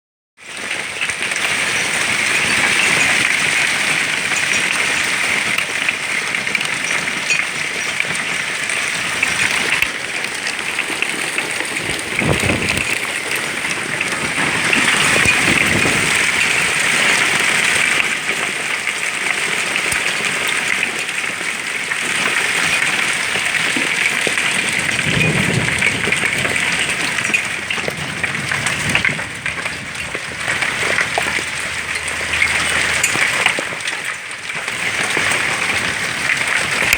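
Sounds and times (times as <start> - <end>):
hailstones clattering: 0.4 - 36.9.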